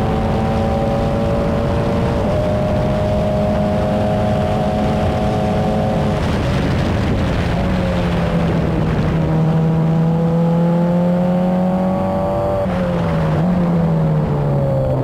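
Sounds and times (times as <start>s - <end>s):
race car engine at high revs: 0.0s - 15.0s
wind and road noise: 0.0s - 15.0s.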